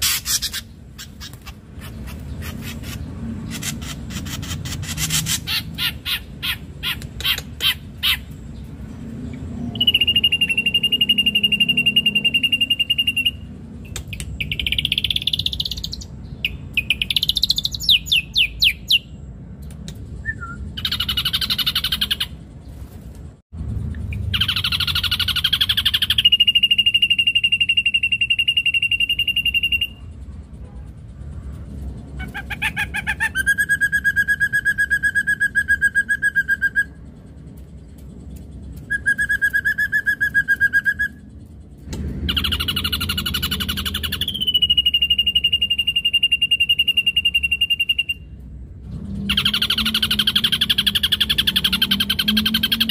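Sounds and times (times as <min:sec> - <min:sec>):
bird singing varied song: 0:00.0 - 0:22.8, 0:23.8 - 0:30.1, 0:32.0 - 0:52.9.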